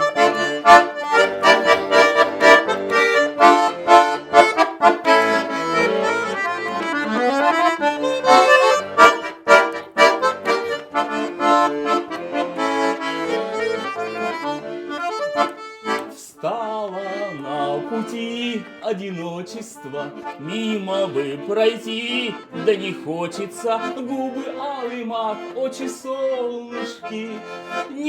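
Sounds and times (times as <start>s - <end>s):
accordion playing: 0.0s - 28.0s.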